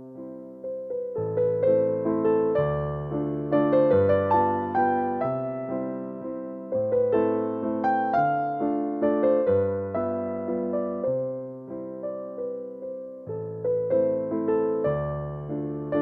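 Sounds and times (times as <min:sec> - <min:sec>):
slow electric piano melody: 0:00.0 - 0:16.0.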